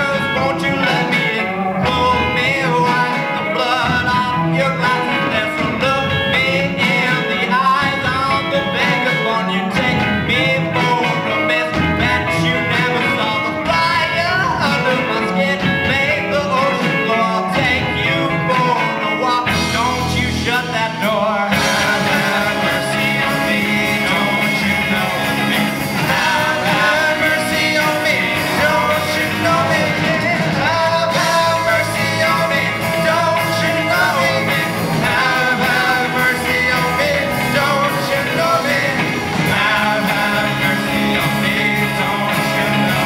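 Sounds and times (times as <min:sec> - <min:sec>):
person singing: 0:00.0 - 0:43.0
rock band playing live: 0:00.0 - 0:43.0.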